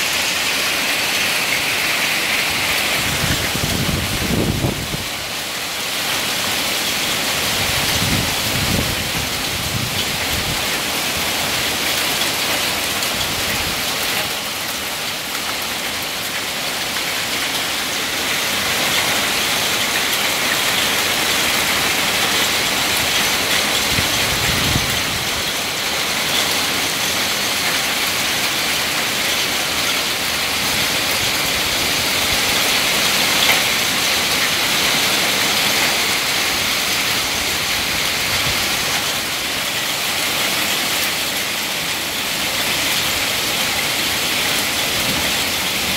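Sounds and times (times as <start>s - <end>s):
heavy rain and hail on foliage: 0.0s - 45.9s.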